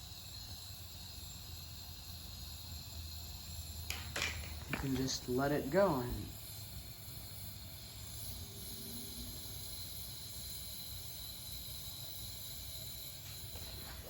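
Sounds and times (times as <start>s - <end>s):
propane torch hissing: 0.0s - 14.0s.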